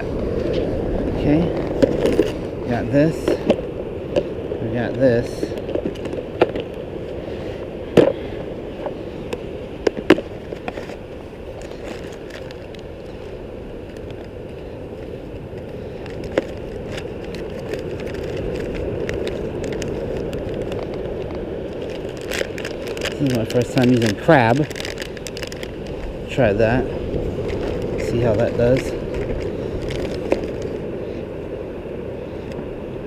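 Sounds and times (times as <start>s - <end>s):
fishing gear clicks and knocks: 0.0s - 6.9s, 7.6s - 31.0s
beach surf: 0.0s - 33.0s.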